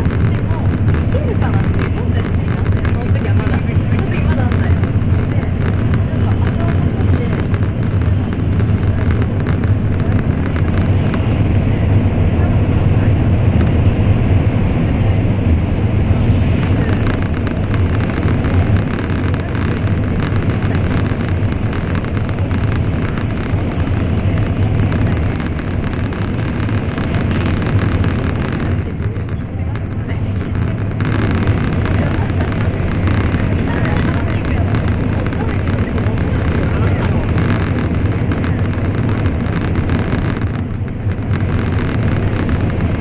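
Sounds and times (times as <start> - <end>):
train cabin rumble: 0.0 - 43.0.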